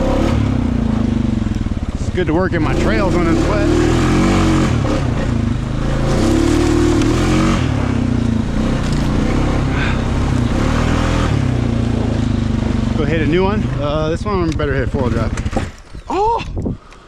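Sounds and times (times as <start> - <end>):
atv engine revving under load: 0.0 - 15.9.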